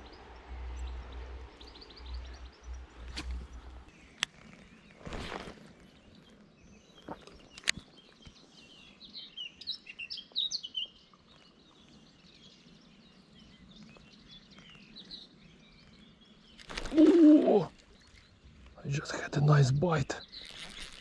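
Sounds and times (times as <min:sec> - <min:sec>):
faint outdoor background noise: 0:00.0 - 0:21.0
small birds chirping: 0:00.0 - 0:21.0.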